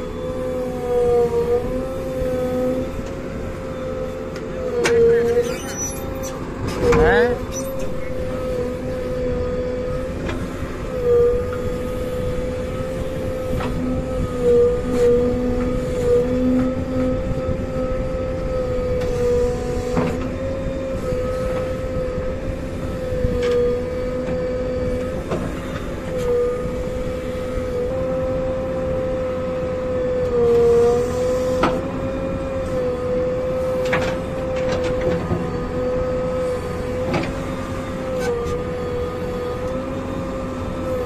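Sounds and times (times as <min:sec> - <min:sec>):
backhoe engine and hydraulics whine: 0:00.0 - 0:41.0.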